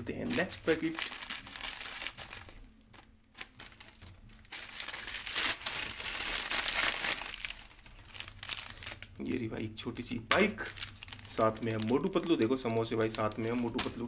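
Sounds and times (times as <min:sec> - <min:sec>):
snack packet crinkling: 0:00.3 - 0:09.5, 0:10.3 - 0:14.0.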